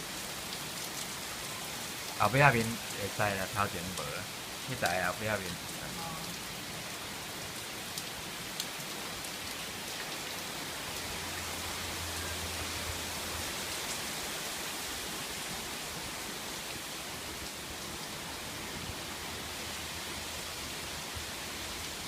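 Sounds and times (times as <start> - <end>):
steady rain pouring: 0.0 - 22.0.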